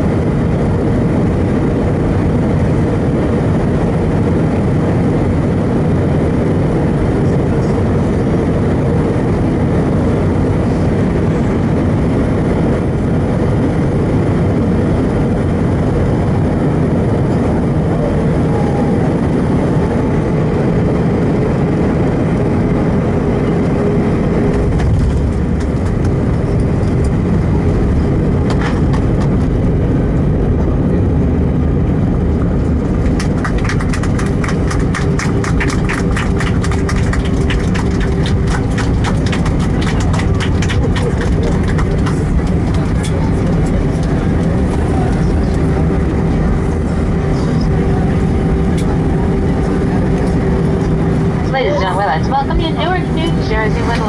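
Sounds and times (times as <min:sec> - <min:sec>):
jet engine and airflow noise: 0:00.0 - 0:54.0
low rumble: 0:00.0 - 0:54.0.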